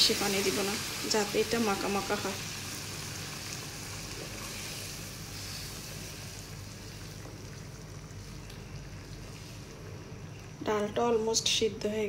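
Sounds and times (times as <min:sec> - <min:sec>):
lentils simmering and sizzling: 0:00.0 - 0:12.0
steady low hum: 0:00.0 - 0:12.0.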